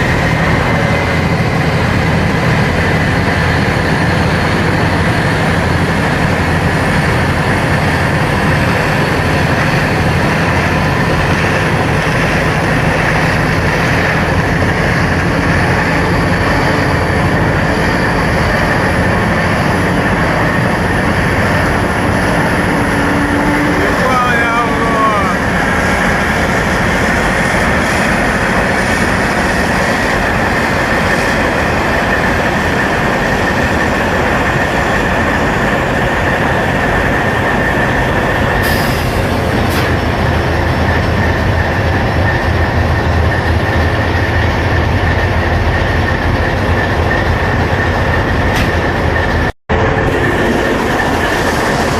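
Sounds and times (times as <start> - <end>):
diesel locomotive engine racing: 0.0 - 51.9.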